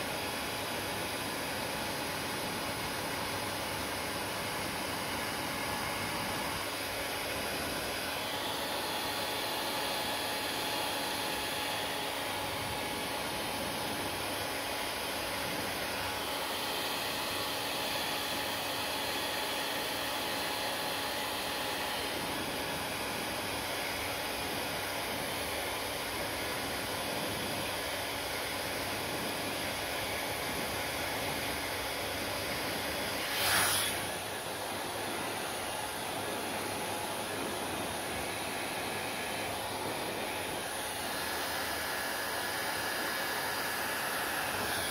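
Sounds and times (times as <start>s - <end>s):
hair dryer blowing: 0.0s - 44.9s.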